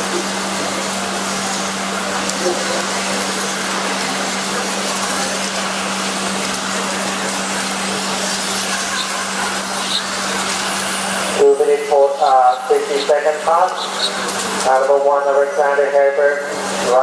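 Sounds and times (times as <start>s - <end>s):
rc cars whirring on asphalt: 0.0s - 17.0s.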